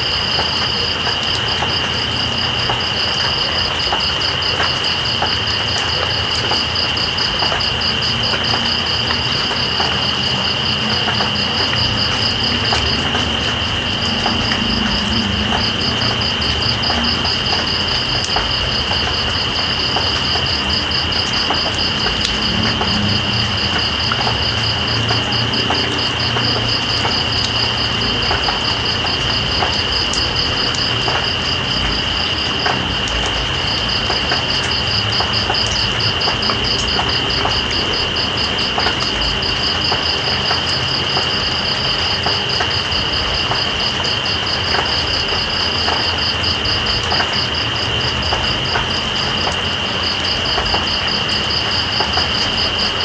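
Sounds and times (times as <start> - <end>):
rain hiss: 0.0 - 53.0
water drips: 0.1 - 53.0.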